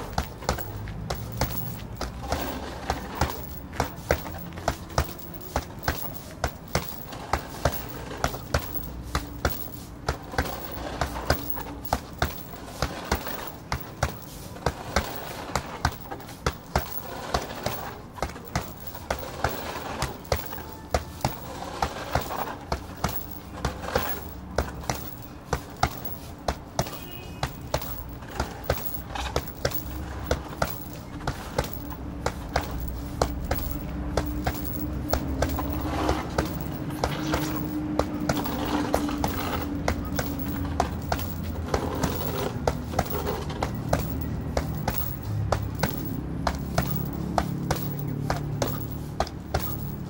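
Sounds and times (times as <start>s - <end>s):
punches on a heavy bag: 0.0s - 50.0s.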